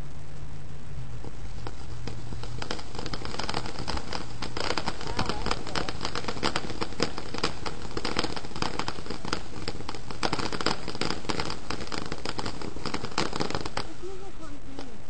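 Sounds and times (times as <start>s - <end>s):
firework fountain hissing and crackling: 0.0s - 15.0s.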